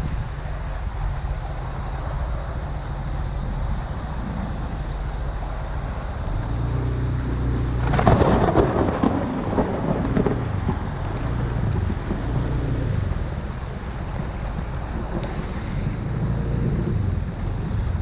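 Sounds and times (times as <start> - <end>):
heavy rain: 0.0 - 18.0
low rumble: 0.0 - 18.0.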